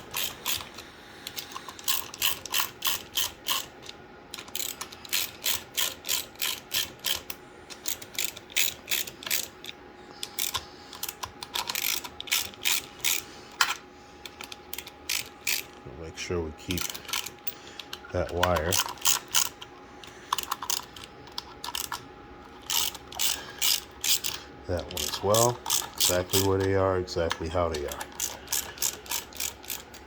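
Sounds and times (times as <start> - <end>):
hand ratchet clicking: 0.0 - 15.8, 16.7 - 22.0, 22.6 - 30.0.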